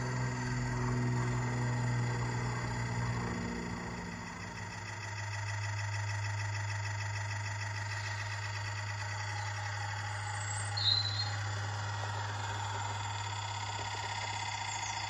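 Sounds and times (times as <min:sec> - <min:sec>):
model train motor hum: 0:00.0 - 0:15.0.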